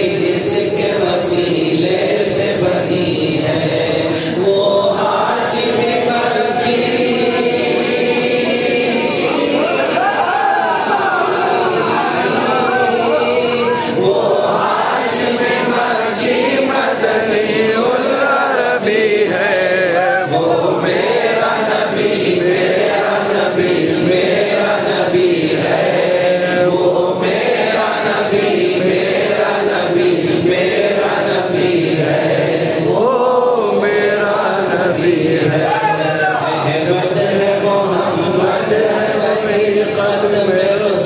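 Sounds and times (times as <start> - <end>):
man chanting devotional poem: 0.0 - 10.0, 12.3 - 41.0.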